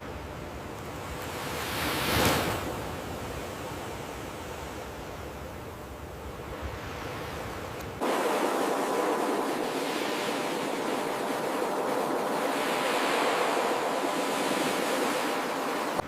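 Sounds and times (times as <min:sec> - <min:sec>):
ocean surf rushing: 0:00.8 - 0:16.0.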